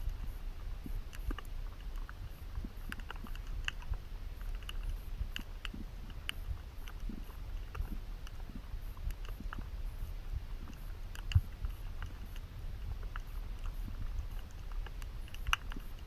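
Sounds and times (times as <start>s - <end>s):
sharp underwater clicks: 0.0s - 16.0s.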